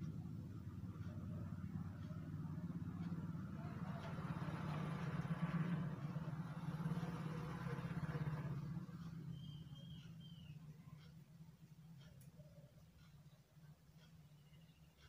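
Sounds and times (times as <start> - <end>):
engine running with rattly hum: 0.0 - 15.0.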